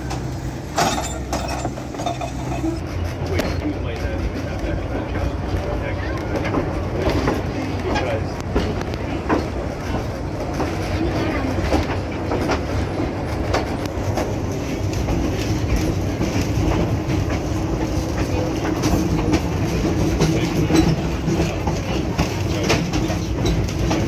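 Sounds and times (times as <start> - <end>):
train wheels rumbling on rails: 0.0 - 24.0
wheels clicking over rail joints: 0.0 - 24.0.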